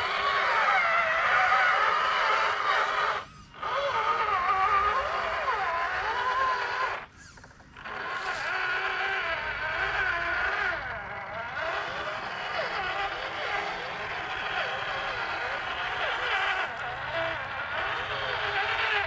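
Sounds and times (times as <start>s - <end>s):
electric motor and gearbox whining: 0.0s - 19.0s.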